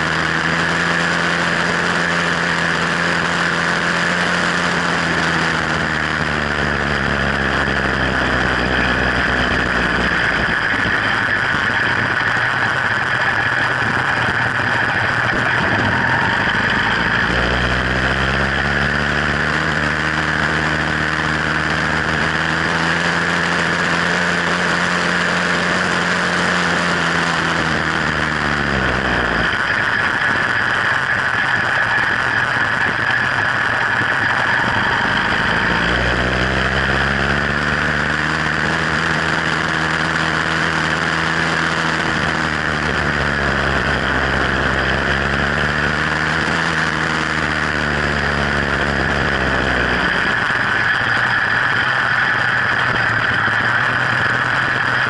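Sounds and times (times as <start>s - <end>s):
steady rushing noise: 0.0s - 55.0s
two-stroke engine running: 0.0s - 55.0s.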